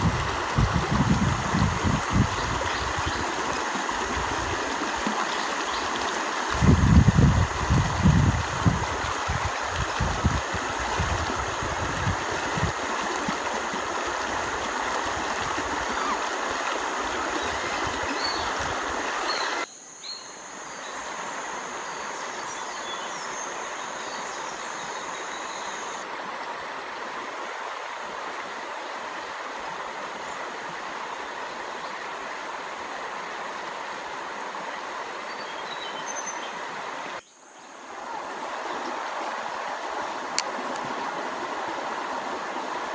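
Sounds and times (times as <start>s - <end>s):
stream water running: 0.0s - 19.7s, 20.6s - 42.9s.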